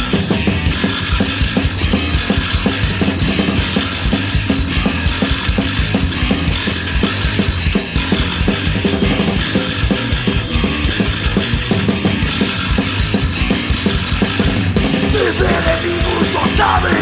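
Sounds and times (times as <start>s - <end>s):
driving drumming: 0.0s - 17.0s
punk rock band playing: 0.0s - 17.0s.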